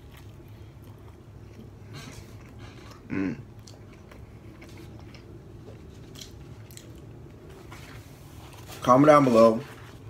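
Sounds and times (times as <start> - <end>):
person chewing food: 0.0 - 8.8.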